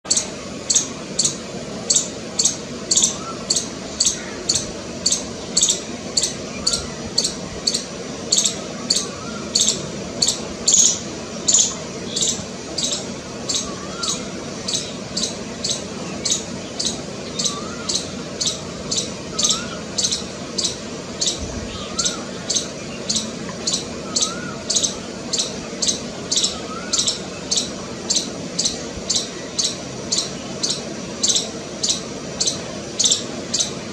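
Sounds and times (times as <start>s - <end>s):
squirrel alarm chirps: 0.1s - 33.8s.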